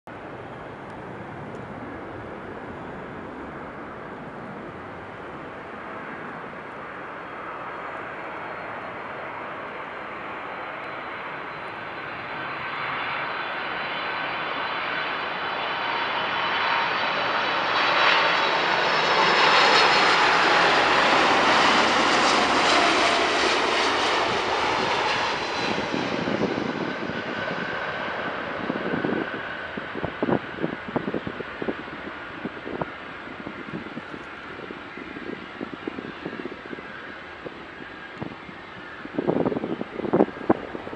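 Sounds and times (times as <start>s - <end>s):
jet airplane landing: 0.1s - 40.9s.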